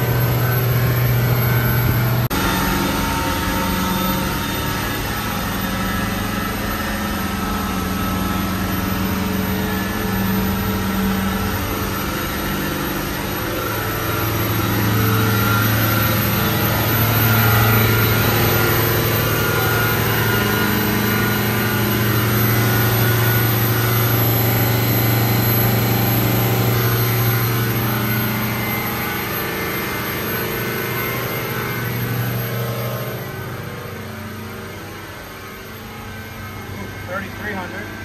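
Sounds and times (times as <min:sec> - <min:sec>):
boat engines droning: 0:00.0 - 0:38.0
wind: 0:00.0 - 0:38.0.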